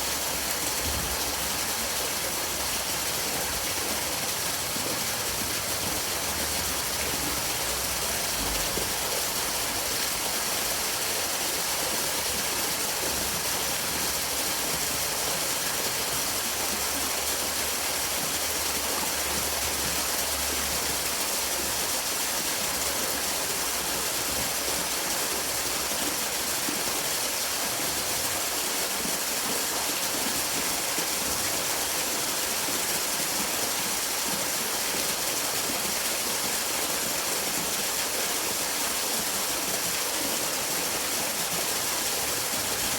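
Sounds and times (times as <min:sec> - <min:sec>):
running water hiss: 0:00.0 - 0:42.9.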